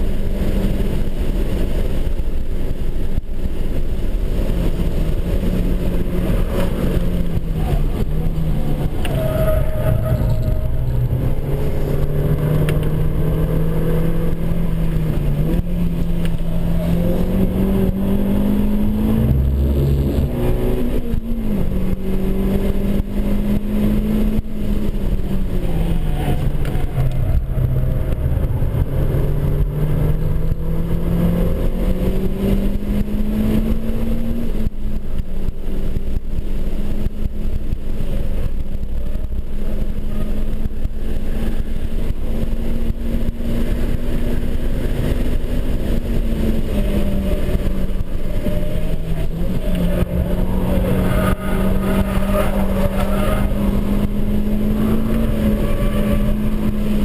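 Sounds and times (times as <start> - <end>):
car engine at high revs: 0.0 - 57.0
road and wind noise: 0.0 - 57.0.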